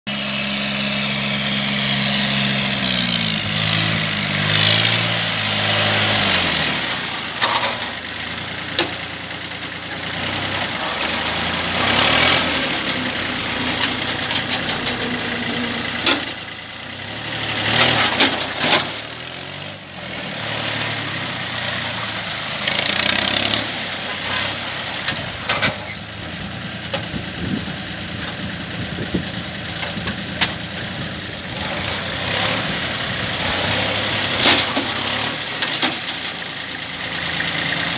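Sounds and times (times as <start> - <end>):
tractor engine running: 0.1 - 37.9.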